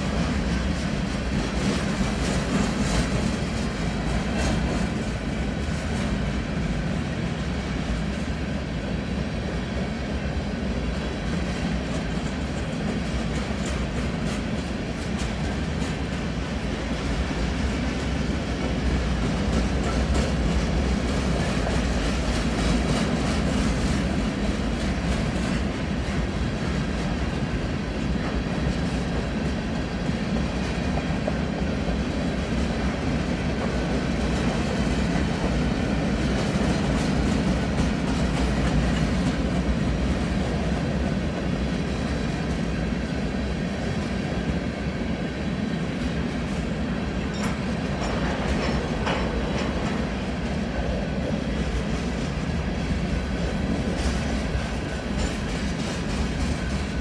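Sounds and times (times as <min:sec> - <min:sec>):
train wheels rumbling on rail: 0:00.0 - 0:57.0
wheels clickety-clack on rail joints: 0:00.0 - 0:57.0.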